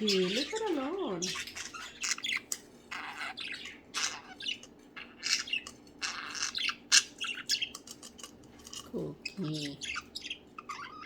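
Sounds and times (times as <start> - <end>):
budgies chirping and chattering: 0.0 - 11.0.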